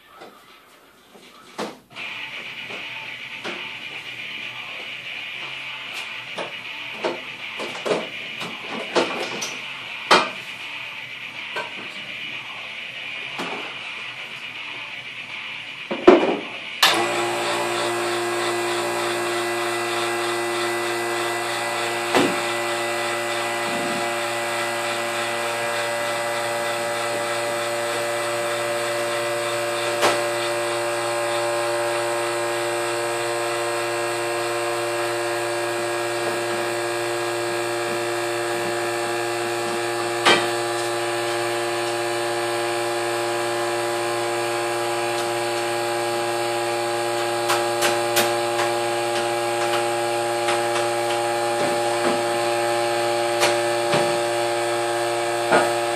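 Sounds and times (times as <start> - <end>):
vacuum motor humming: 9.6 - 55.9.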